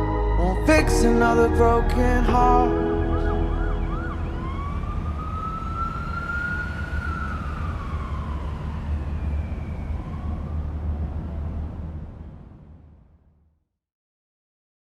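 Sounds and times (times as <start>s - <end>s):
siren wailing: 0.0s - 12.6s
steady low rumble: 0.0s - 13.4s.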